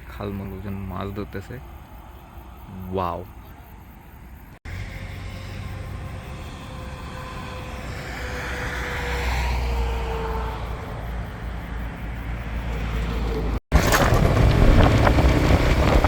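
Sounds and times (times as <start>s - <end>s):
vehicle passing: 0.7s - 16.0s.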